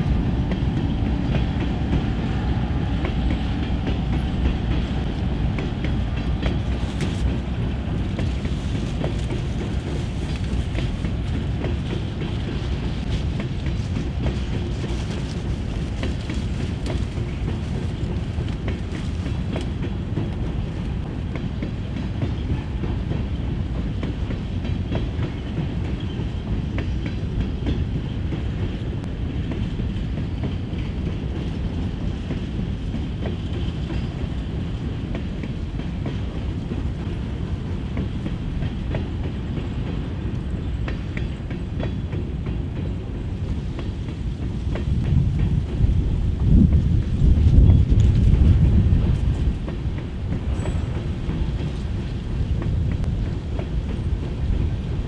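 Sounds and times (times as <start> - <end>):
train wheels rumbling on rails: 0.0 - 55.0
wheels clickety-clack on track: 0.0 - 55.0.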